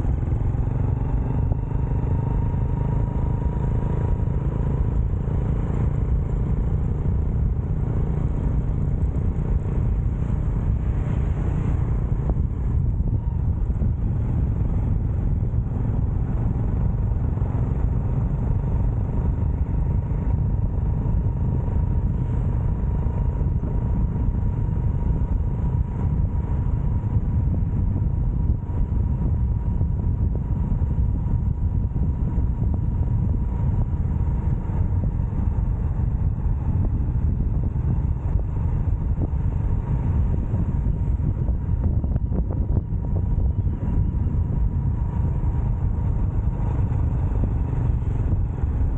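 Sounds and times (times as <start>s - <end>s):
motorcycle engine running: 0.0s - 48.9s
wind noise on microphone: 0.0s - 48.9s.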